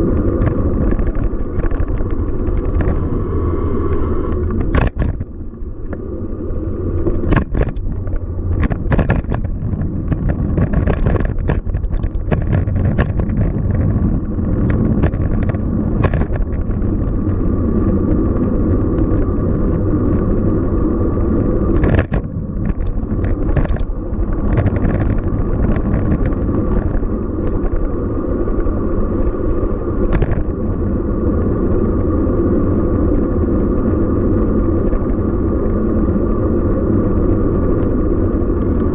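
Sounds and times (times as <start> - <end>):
city traffic rumble: 0.0 - 38.9.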